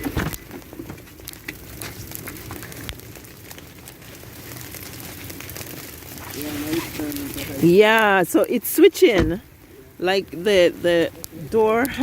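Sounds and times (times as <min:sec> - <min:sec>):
ice pellets ticking and crackling: 0:00.0 - 0:12.0.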